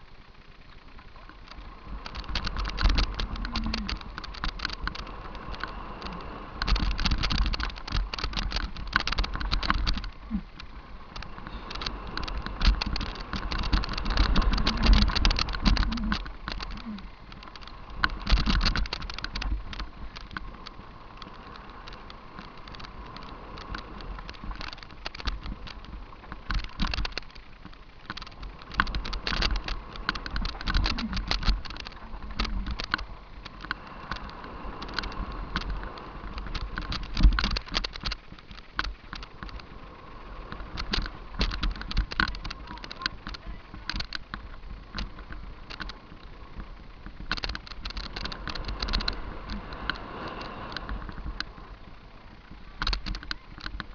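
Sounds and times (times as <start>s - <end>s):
bike rattling and knocking: 0.0s - 53.9s
low rumble: 0.0s - 53.9s
tyre noise on loose dirt: 0.0s - 53.9s.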